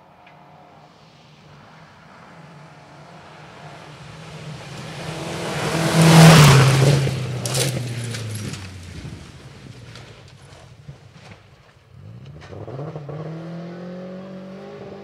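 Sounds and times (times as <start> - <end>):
rally car passing at speed: 0.0 - 15.0.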